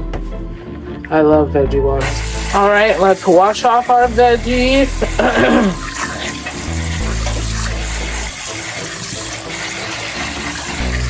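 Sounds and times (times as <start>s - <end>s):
tap water running: 2.0s - 11.0s.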